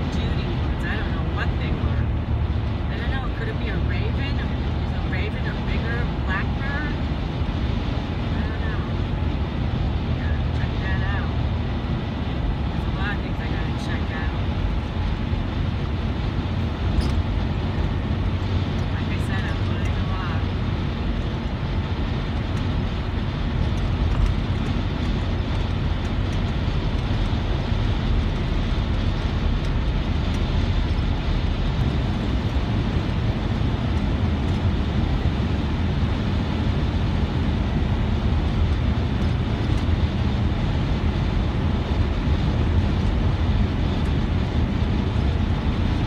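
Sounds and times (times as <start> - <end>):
car road noise inside cabin: 0.0 - 46.0.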